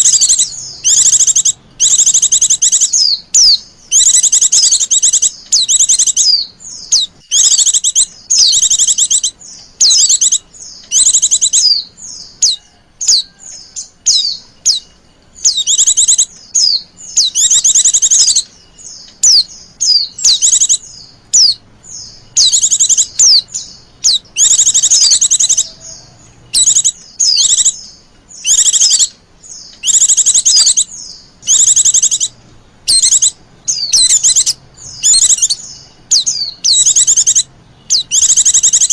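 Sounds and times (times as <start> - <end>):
bird high trills and chirps: 0.0 - 38.9.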